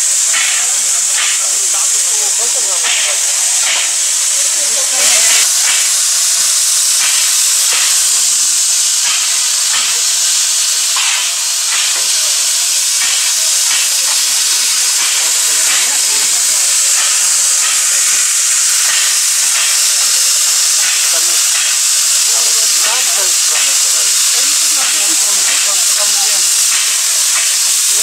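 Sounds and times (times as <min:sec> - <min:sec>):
steam hissing: 0:00.0 - 0:28.0.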